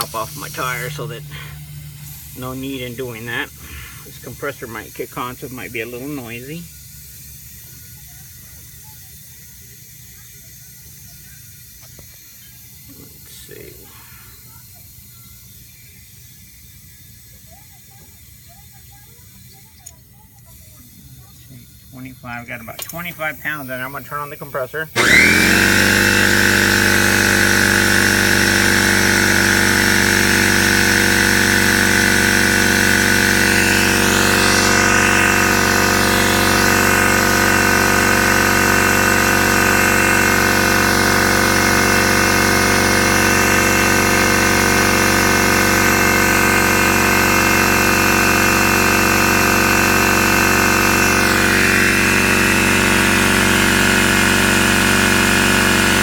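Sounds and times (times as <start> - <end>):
electric air compressor running: 0.0 - 56.0.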